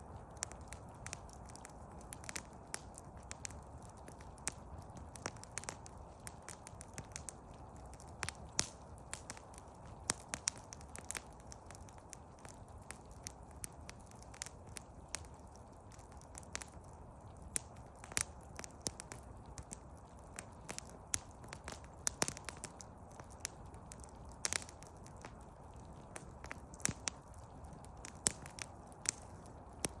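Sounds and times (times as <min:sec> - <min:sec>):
campfire crackling: 0:00.0 - 0:30.0
low fire hiss: 0:00.0 - 0:30.0.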